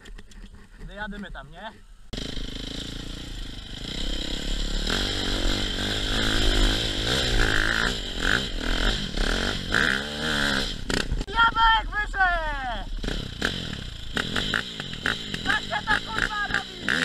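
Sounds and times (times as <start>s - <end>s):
dirt bike engine revving: 2.1s - 17.0s.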